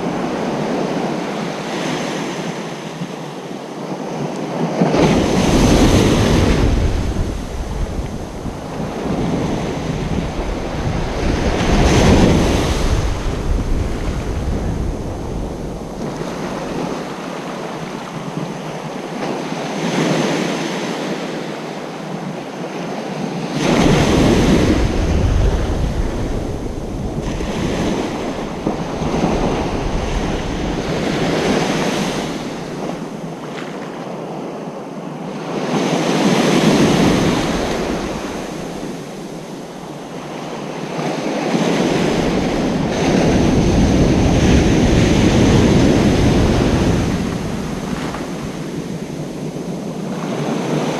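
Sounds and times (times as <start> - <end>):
ocean waves breaking on beach: 0.0 - 50.9.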